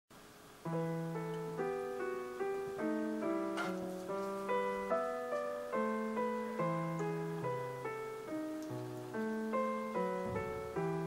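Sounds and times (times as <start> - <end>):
background piano music: 0.2 - 11.0.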